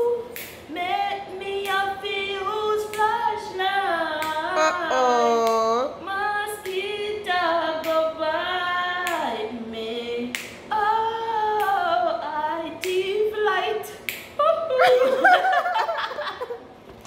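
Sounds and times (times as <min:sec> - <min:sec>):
woman singing unaccompanied: 0:00.0 - 0:15.2.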